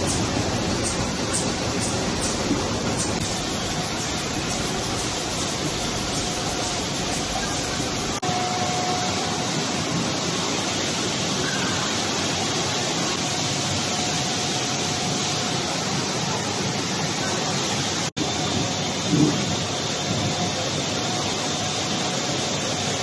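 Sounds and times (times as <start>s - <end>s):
conveyor machine din: 0.0s - 23.0s.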